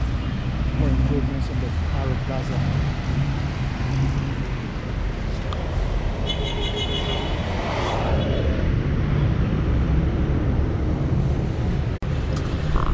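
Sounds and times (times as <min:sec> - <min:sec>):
street traffic rumble: 0:00.0 - 0:12.9.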